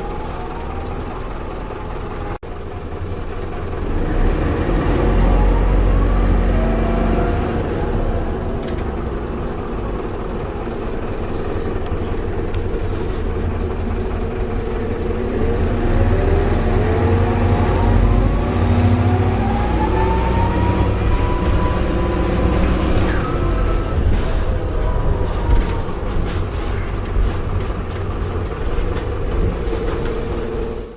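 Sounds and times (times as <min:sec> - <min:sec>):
diesel engine rumble: 0:00.0 - 0:30.9.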